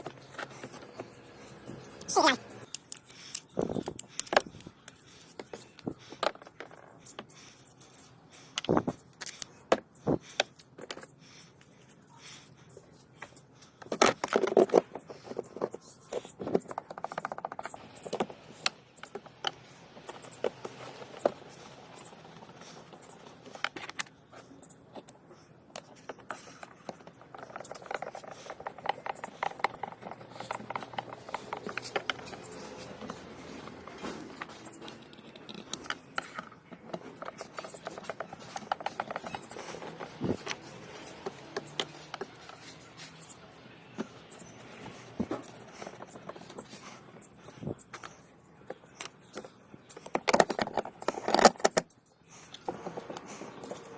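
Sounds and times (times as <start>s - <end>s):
tools and metal parts clicking: 0.0s - 53.9s.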